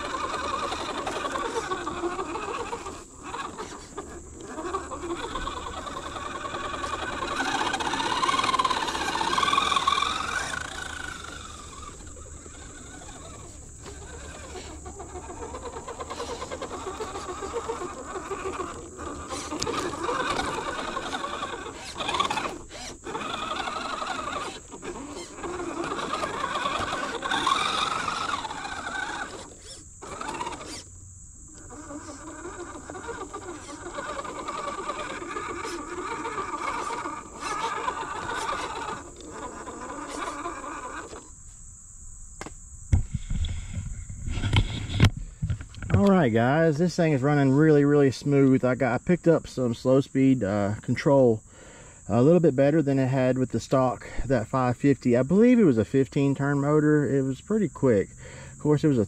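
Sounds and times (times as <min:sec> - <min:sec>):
electric motor whining: 0:00.0 - 0:48.8.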